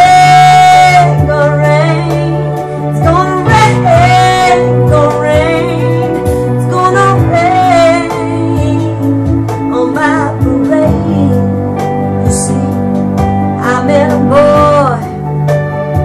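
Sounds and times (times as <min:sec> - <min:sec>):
woman singing a slow ballad: 0:00.0 - 0:15.3
backing track with bass and beat: 0:00.0 - 0:16.0.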